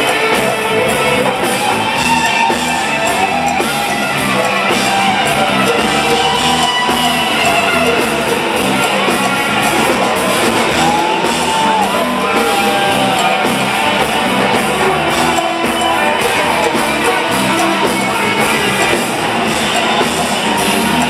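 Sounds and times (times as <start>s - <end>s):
gliding melodic guitar line: 0.0s - 21.0s
live rock band playing: 0.0s - 21.0s.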